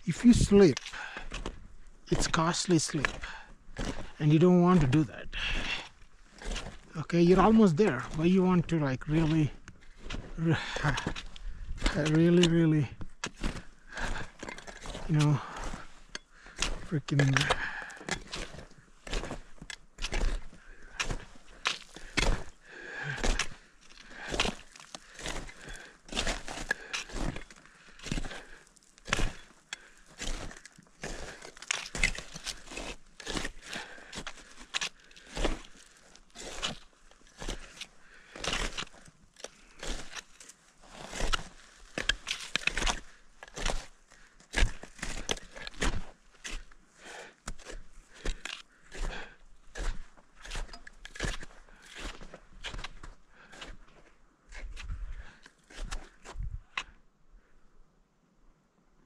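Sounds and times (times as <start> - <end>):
footsteps walking uphill: 0.0 - 57.0.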